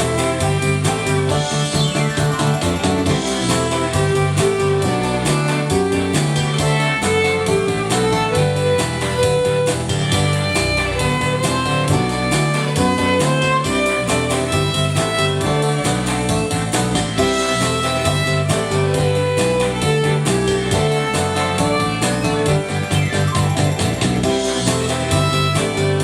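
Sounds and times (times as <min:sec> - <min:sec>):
bass line: 0:00.0 - 0:26.0
steady beat: 0:00.0 - 0:26.0
violin melody: 0:00.0 - 0:26.0.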